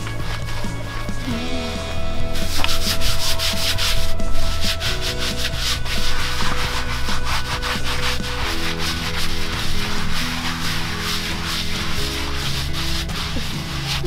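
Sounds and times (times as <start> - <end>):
rubber comb scrubbing horse coat: 0.0 - 1.3, 2.2 - 14.0.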